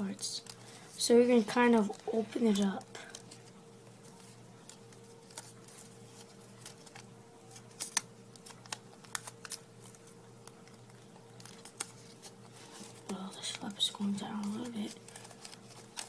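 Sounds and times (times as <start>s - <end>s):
faint steady hum: 0.0s - 16.0s
paper crinkling: 0.4s - 16.0s.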